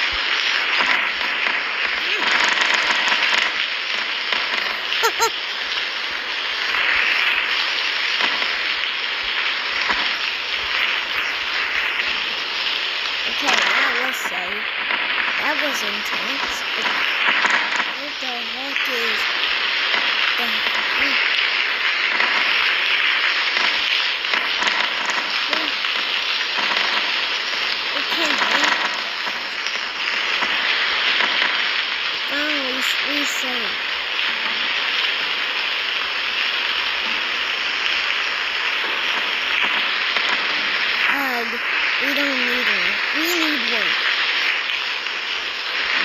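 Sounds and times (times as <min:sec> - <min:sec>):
heavy rain: 0:00.0 - 0:46.0
wind: 0:00.0 - 0:46.0.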